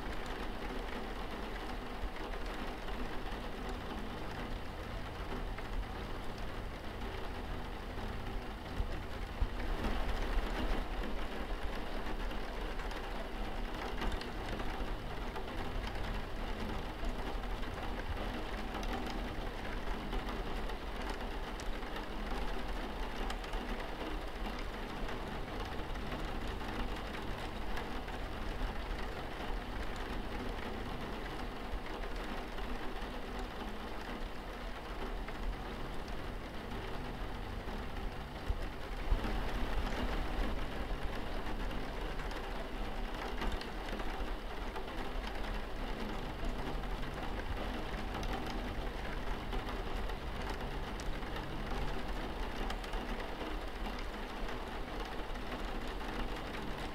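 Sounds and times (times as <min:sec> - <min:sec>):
rain on window glass: 0:00.0 - 0:56.9.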